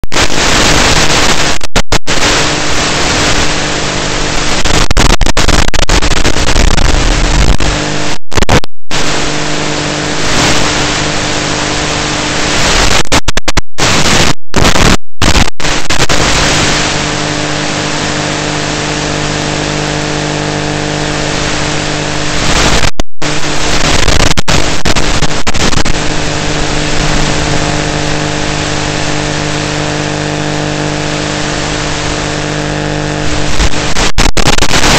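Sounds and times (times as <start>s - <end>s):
loud static hiss: 0.0s - 34.9s.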